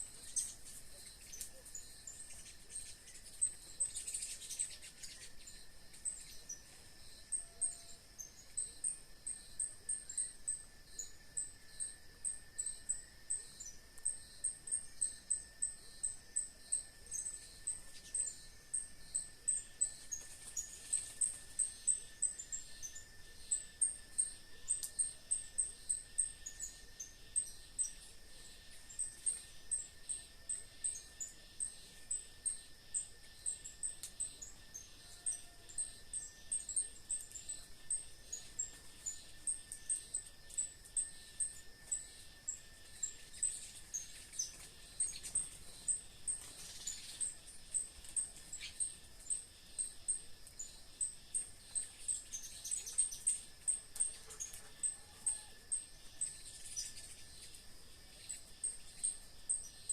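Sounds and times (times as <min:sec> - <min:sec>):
thin insect drone: 0:00.0 - 0:59.9.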